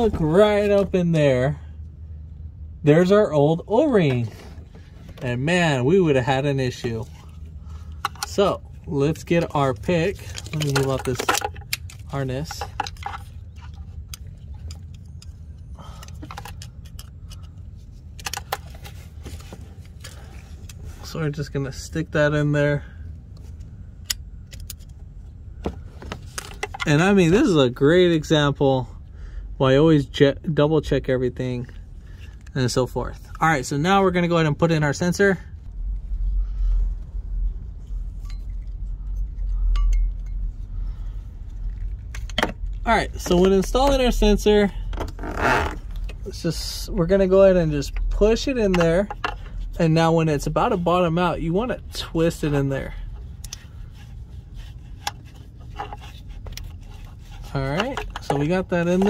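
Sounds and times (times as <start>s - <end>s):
steady low hum: 0.0s - 59.0s
steady low rumble: 0.0s - 59.0s.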